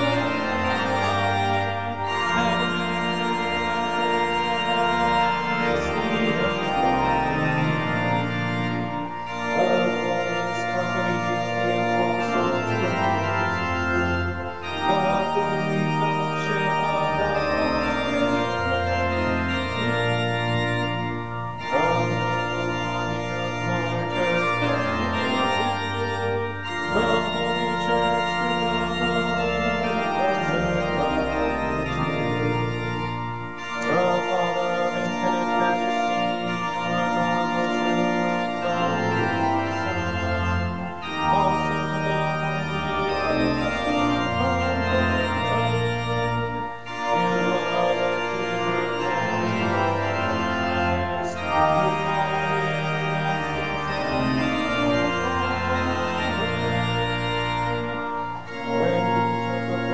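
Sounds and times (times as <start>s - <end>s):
church organ playing hymn: 0.0s - 59.9s.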